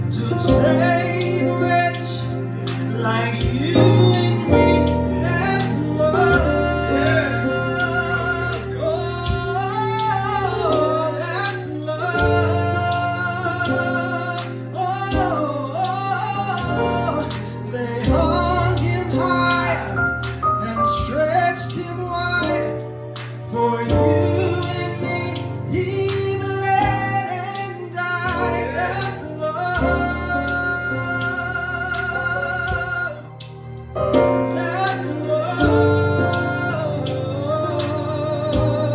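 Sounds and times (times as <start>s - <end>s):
band playing low held chords: 0.0s - 38.9s
lead voice singing gospel runs: 0.0s - 38.9s.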